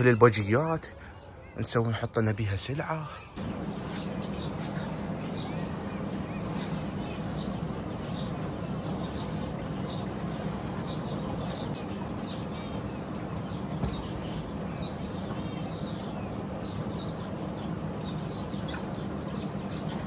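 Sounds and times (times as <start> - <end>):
small birds chirping: 0.0 - 20.0
steady low hum: 3.3 - 20.0.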